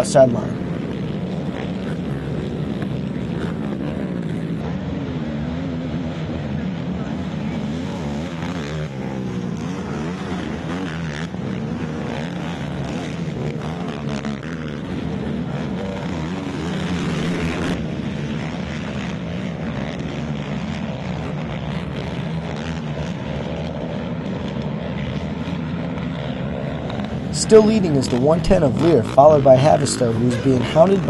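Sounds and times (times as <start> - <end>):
atv engines revving: 0.0 - 31.0.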